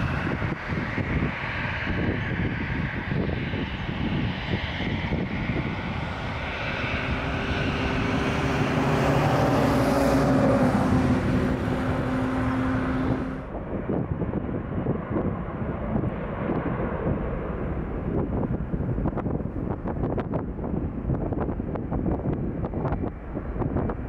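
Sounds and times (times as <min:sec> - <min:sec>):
jet accelerating down runway: 0:00.0 - 0:24.0
jet engines rumbling at takeoff: 0:00.0 - 0:24.0.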